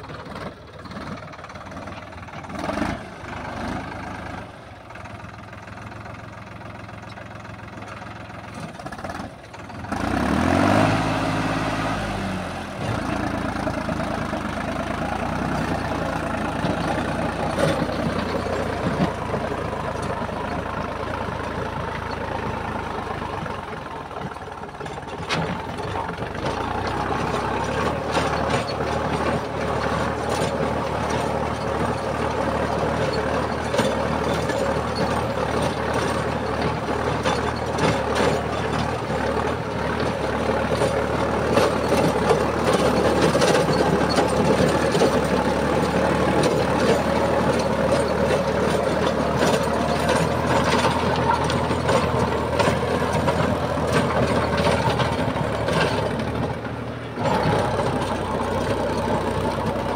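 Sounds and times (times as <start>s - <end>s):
tiller blades churning soil: 0.0s - 59.9s
tractor diesel engine running: 0.0s - 59.9s.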